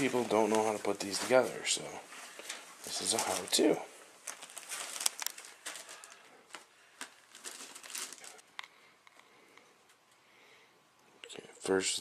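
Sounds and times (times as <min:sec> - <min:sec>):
rustling and crinkling: 0:00.0 - 0:10.2.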